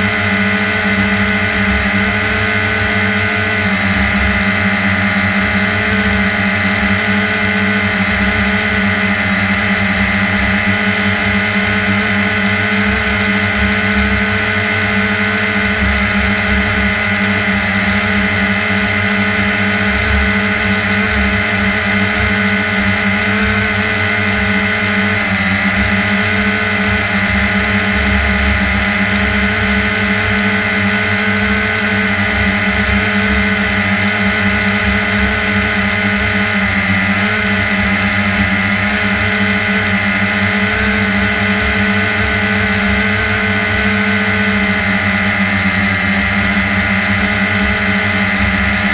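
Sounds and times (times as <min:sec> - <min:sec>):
drone propellers buzzing: 0:00.0 - 0:48.9.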